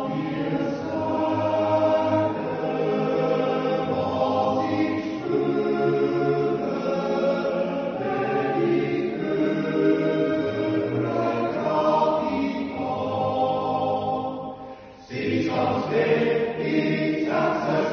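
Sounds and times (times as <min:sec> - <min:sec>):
men's choir yodeling: 0:00.0 - 0:17.9.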